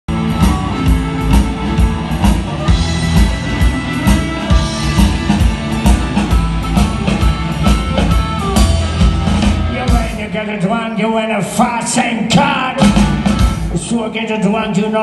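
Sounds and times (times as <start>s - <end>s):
drum kit beat: 0.1s - 10.7s, 11.5s - 13.9s
electric guitar: 0.1s - 10.7s, 12.0s - 13.9s.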